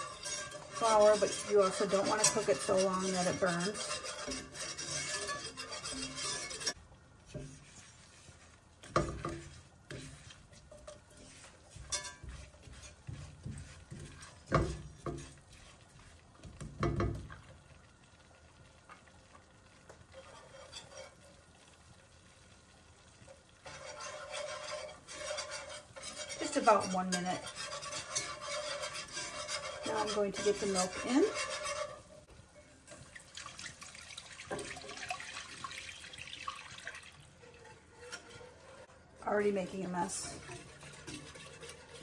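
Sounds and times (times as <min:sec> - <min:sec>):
steady whisking: 0:00.0 - 0:17.6, 0:19.7 - 0:21.7, 0:23.0 - 0:42.0
whisk scraping and knocking pot: 0:00.0 - 0:17.6, 0:19.9 - 0:21.5, 0:23.2 - 0:42.0.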